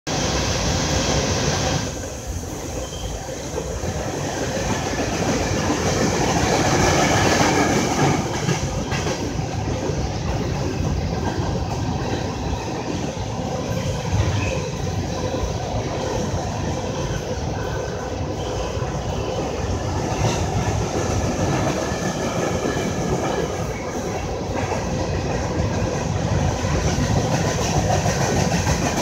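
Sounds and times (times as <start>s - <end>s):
freight train wheels rumbling: 0.1s - 29.0s.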